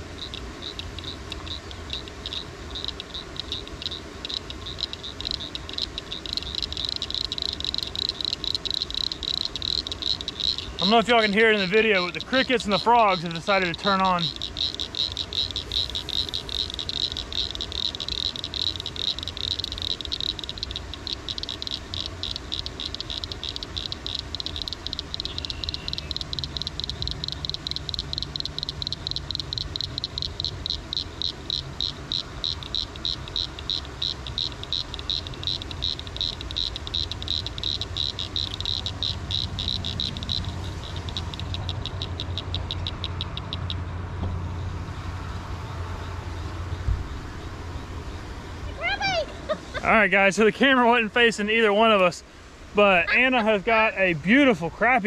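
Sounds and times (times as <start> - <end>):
crickets and frogs trilling: 0.0 - 55.0
low background rumble: 0.0 - 55.0.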